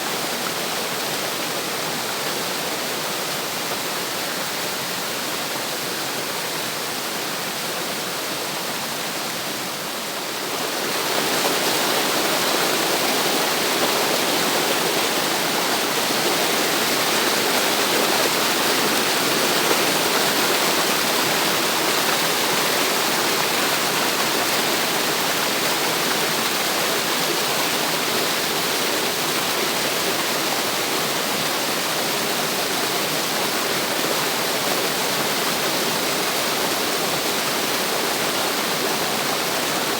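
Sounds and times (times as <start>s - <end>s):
water rushing down a cascade: 0.0s - 39.9s.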